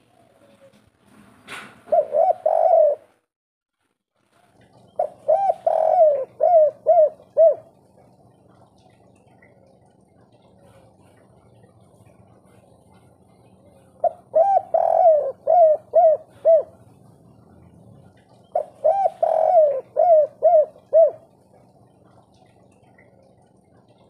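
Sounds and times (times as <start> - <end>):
dove cooing: 1.8 - 3.2, 4.5 - 24.0.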